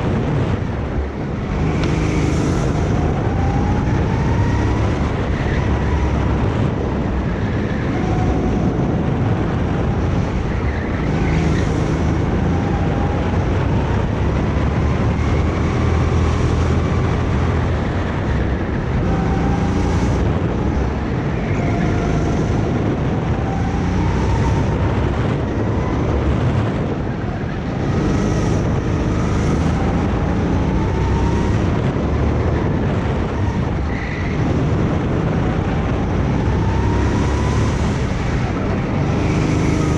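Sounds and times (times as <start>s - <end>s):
go-kart engine accelerating: 0.0s - 39.9s.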